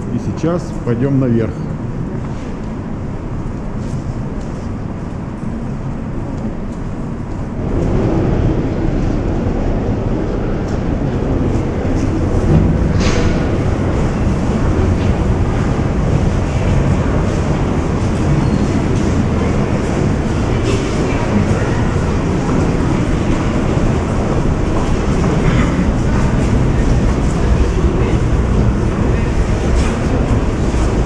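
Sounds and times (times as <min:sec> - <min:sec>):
metro train rumbling in tunnel: 0:00.0 - 0:31.0.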